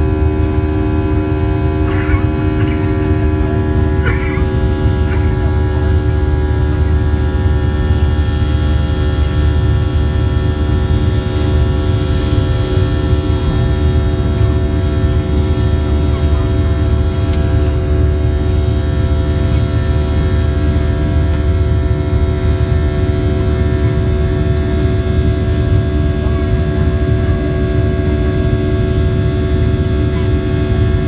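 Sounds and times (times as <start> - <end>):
aircraft engine rumble: 0.0 - 31.0
engine whining tones: 0.0 - 31.0.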